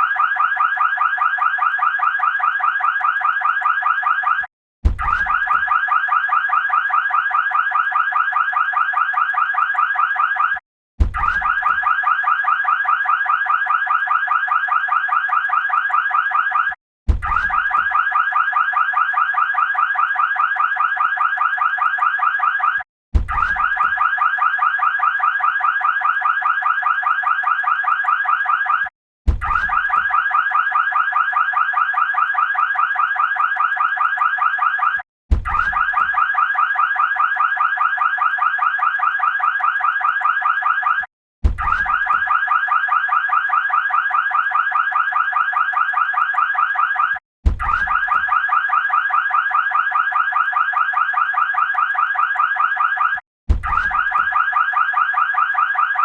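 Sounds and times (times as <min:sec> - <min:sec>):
siren wailing with warble: 0:00.0 - 0:10.6, 0:11.2 - 0:56.0.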